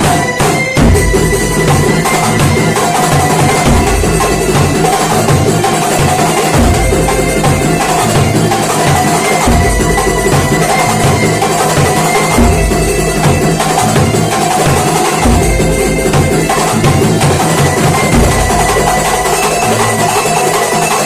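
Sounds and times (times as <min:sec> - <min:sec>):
frame drums: 0:00.0 - 0:21.0.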